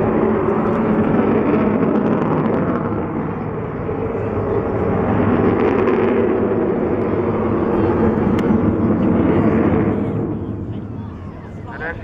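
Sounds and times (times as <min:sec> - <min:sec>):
jet bomber flying: 0:00.0 - 0:12.0.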